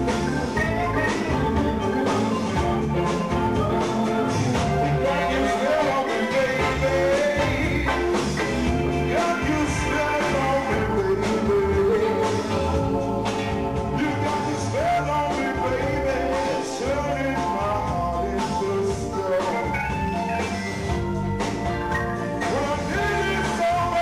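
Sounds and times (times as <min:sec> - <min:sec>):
electric guitar lead line: 0:00.0 - 0:24.0
live rock band playing: 0:00.0 - 0:24.0.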